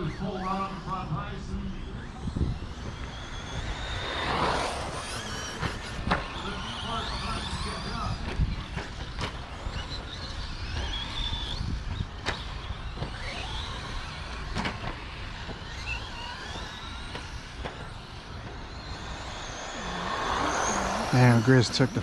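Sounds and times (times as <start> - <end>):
rc truck motors whining: 0.0 - 22.0.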